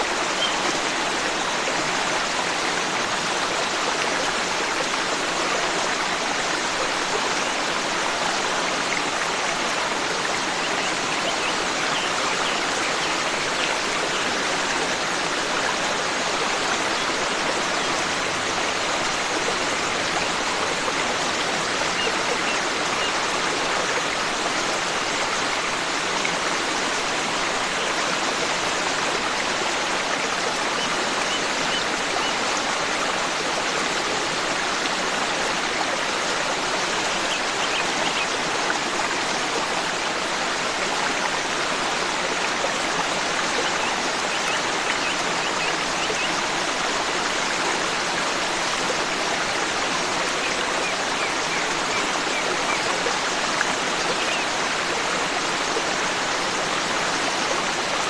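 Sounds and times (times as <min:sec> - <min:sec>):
stream running and splashing: 0:00.0 - 0:58.0.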